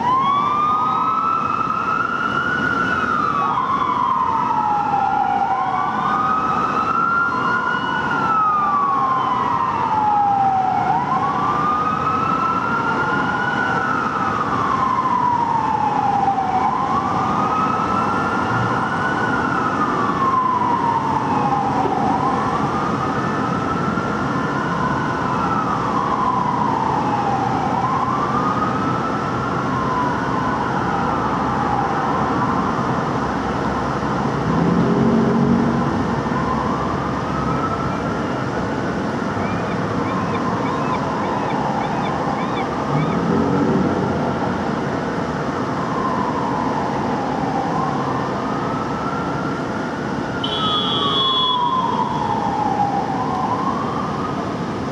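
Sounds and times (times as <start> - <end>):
siren wailing: 0.0 - 32.9, 34.4 - 54.8
road traffic noise: 0.0 - 54.9.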